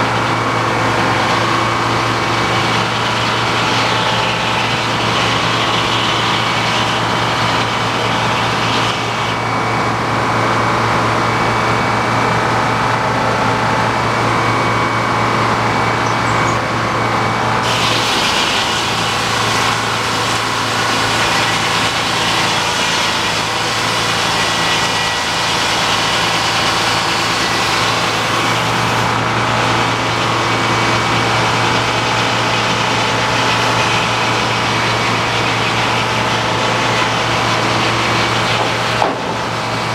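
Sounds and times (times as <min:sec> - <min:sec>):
saw cutting through log: 0:00.0 - 0:11.3, 0:16.6 - 0:39.9
sawmill engine under load: 0:00.0 - 0:39.9.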